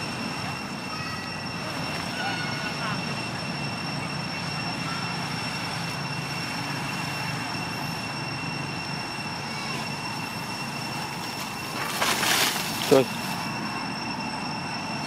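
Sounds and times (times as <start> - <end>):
constant high-pitched whine: 0.0 - 15.0.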